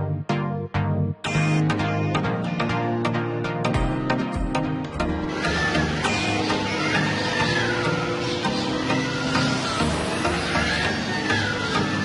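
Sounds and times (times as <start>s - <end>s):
music with gliding melodic lines: 0.0s - 12.0s.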